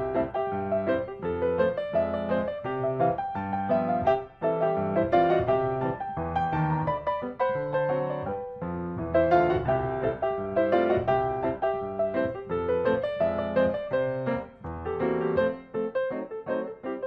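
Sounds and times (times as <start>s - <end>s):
piano music quick notes: 0.0s - 17.0s.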